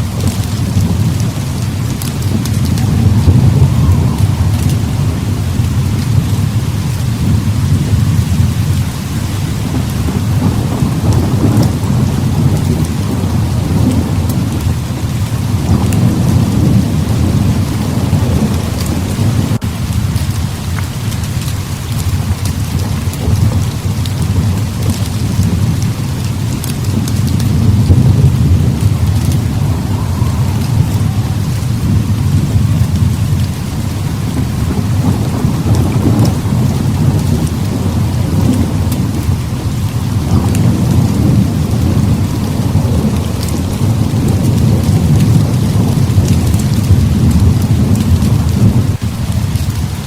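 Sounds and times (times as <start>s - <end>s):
deep rolling thunder: 0.0s - 50.0s
heavy rain pouring: 0.0s - 50.0s.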